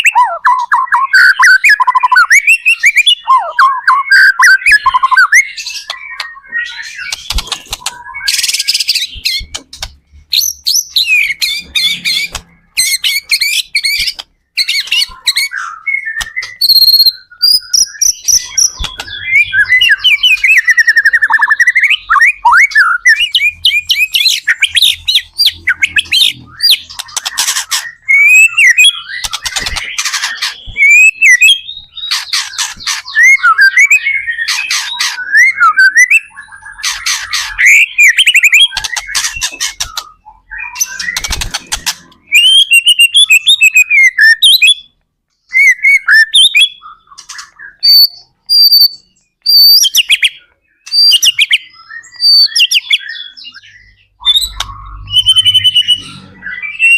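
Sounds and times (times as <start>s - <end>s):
songbird singing varied song: 0.0s - 41.4s, 42.1s - 56.9s.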